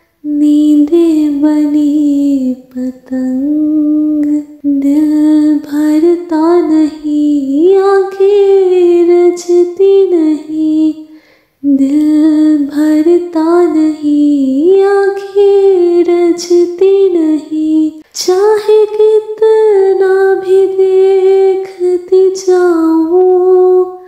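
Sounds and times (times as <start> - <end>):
woman singing without words: 0.0 - 24.0.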